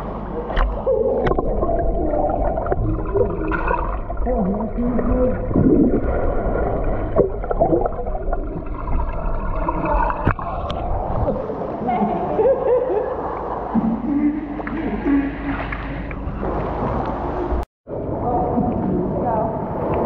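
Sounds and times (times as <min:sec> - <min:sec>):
gurgling water underwater: 0:00.1 - 0:17.6.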